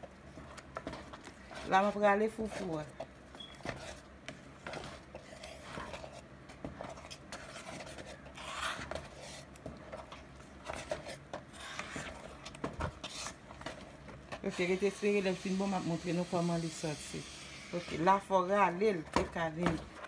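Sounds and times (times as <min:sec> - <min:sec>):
wooden spoon scraping a pot: 0:00.0 - 0:20.0.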